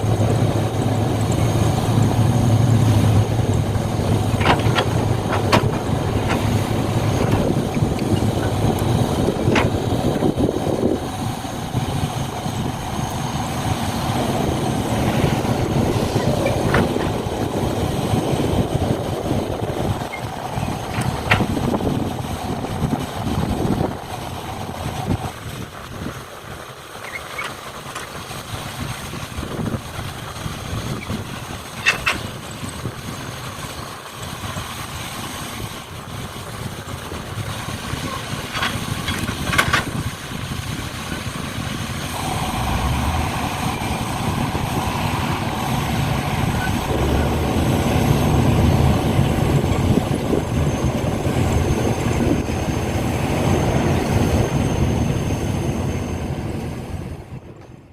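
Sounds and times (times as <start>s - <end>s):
model truck engine-like sound: 0.0s - 57.9s.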